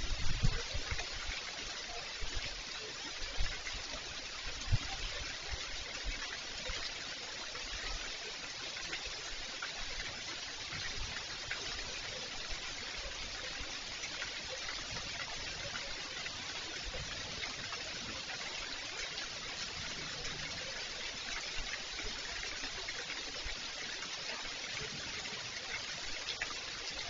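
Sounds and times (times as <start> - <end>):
running water: 0.0 - 27.0
steady rain: 0.0 - 27.0.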